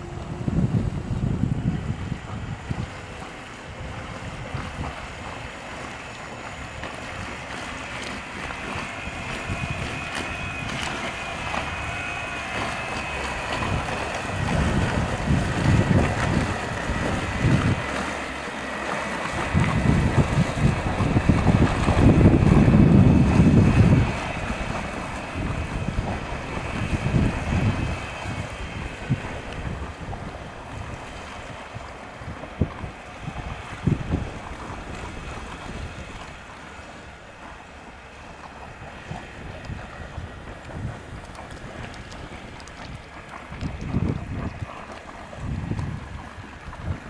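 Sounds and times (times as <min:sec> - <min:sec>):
electric motor whine: 0:00.0 - 0:47.0
water rushing along hull: 0:00.0 - 0:47.0
wind buffeting microphone: 0:00.0 - 0:47.0.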